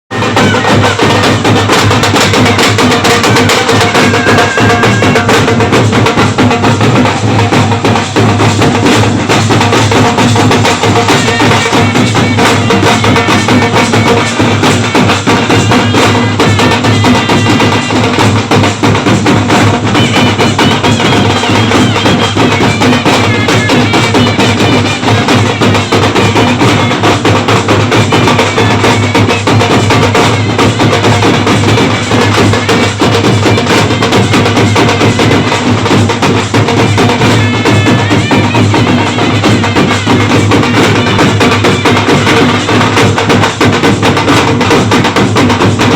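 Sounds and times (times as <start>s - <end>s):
loud percussive music: 0.1s - 45.9s.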